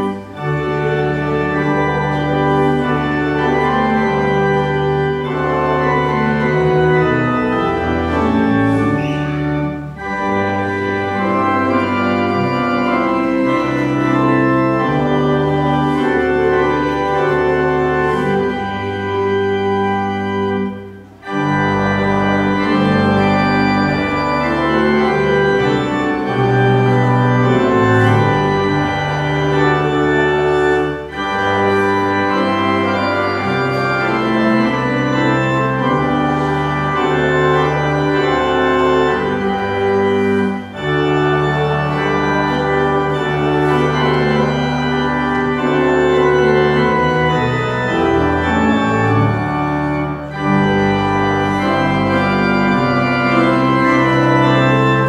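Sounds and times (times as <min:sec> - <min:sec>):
church organ playing hymn: 0:00.0 - 0:55.0.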